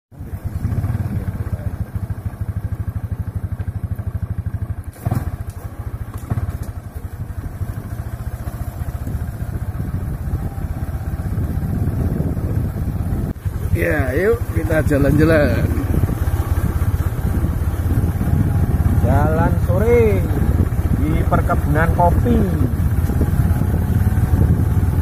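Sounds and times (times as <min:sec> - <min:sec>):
motorcycle engine running: 0:00.1 - 0:25.0.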